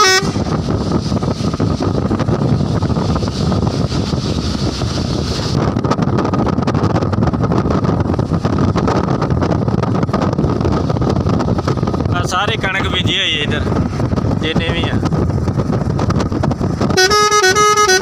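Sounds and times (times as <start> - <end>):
vehicle road noise: 0.0 - 18.0
wind buffeting microphone: 0.0 - 18.0.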